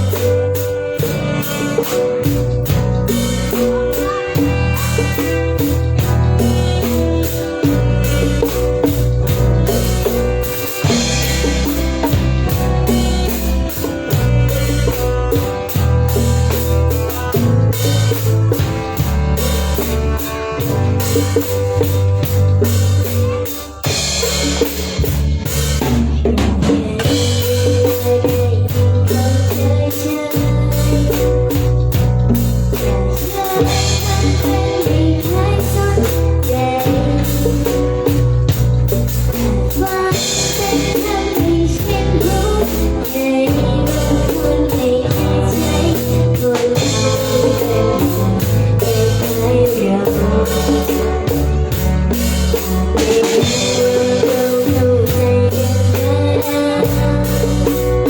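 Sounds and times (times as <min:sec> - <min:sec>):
bass line: 0:00.0 - 0:58.0
drum kit keeping a steady beat: 0:00.0 - 0:58.0.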